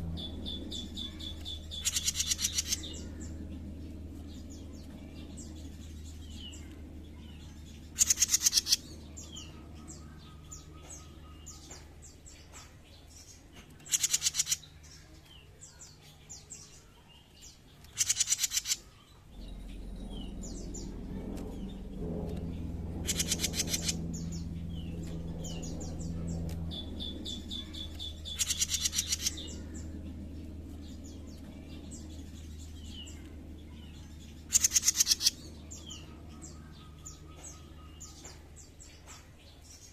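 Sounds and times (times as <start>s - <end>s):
buzzy bird trills: 0.0s - 39.9s
low hum: 0.0s - 39.9s.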